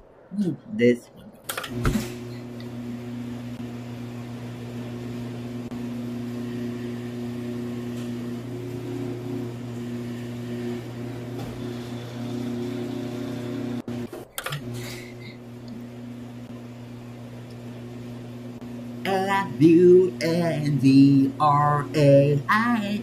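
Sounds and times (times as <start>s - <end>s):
garage door opener motor hum: 1.5s - 23.0s.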